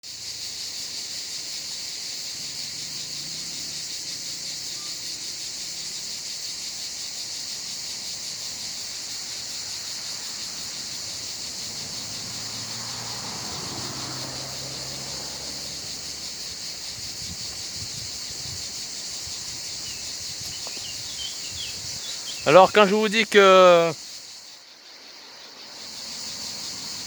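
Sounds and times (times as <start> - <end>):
cicadas singing: 0.0 - 27.0.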